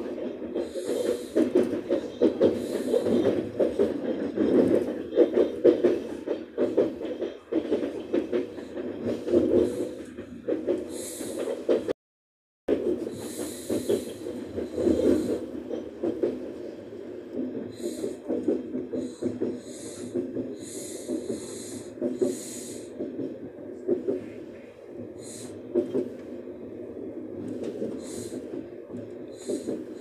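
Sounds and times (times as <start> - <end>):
train wheels rumbling on track: 0.0 - 12.0, 12.7 - 30.0.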